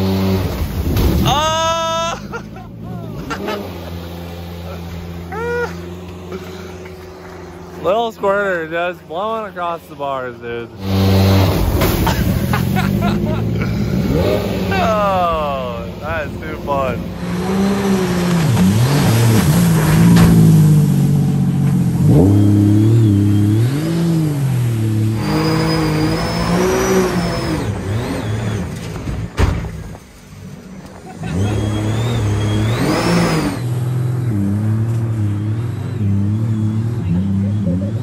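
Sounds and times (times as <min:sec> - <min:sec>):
jet boat engine revving: 0:00.0 - 0:38.0.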